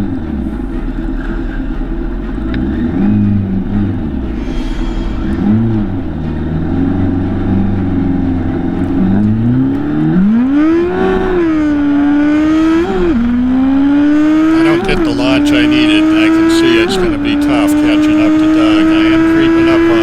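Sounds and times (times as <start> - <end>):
drag racing motorcycle engine revving: 0.0 - 20.0.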